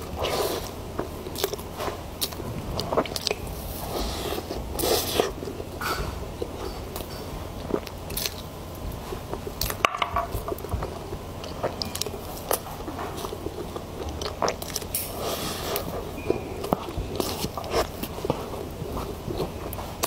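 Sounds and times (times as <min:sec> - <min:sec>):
chewing soft cake: 0:00.0 - 0:20.0.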